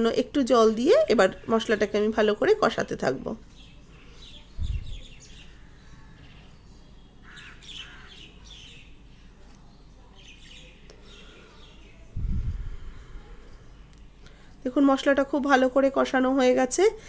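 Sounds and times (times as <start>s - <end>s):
small birds chirping: 1.1s - 15.0s.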